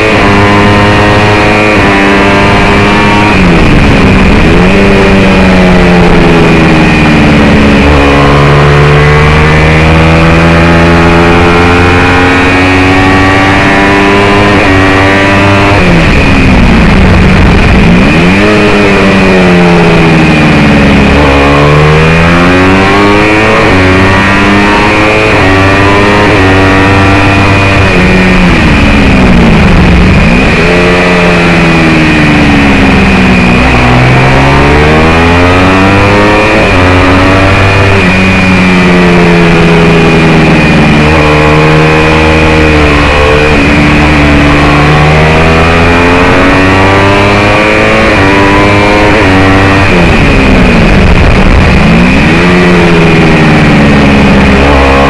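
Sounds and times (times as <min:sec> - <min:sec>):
racing motorcycle engine revving: 0:00.0 - 0:55.0.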